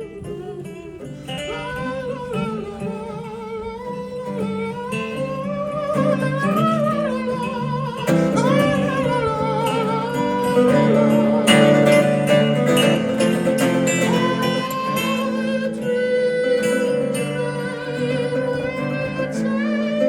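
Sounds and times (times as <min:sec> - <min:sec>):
plucked guitar: 0:00.0 - 0:20.0.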